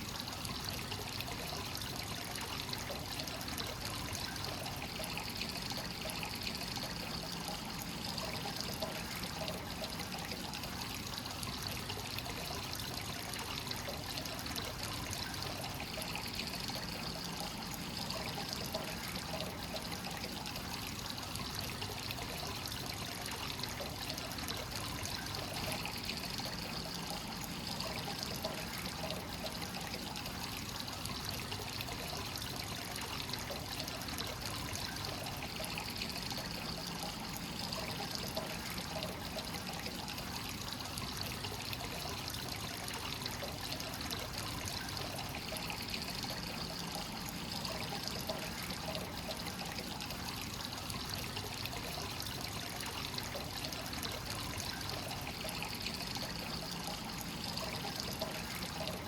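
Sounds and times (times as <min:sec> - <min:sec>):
water pouring into a bath: 0:00.0 - 0:59.0.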